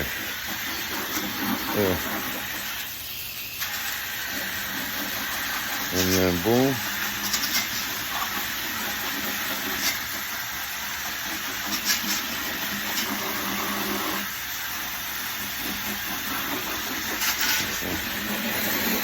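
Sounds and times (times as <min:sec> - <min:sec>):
air blower running: 0:00.0 - 0:07.2, 0:07.8 - 0:19.0.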